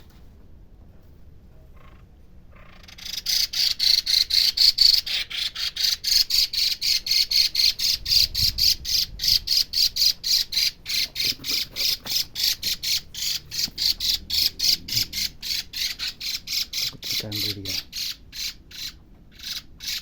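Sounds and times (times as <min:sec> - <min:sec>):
bird alarm call: 0:01.8 - 0:20.0.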